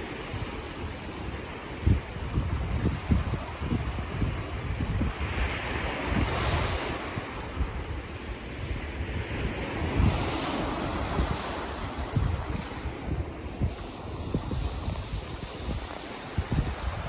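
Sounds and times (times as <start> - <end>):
small waves washing up beach: 0.0 - 17.0
wind buffeting microphone: 0.0 - 17.0.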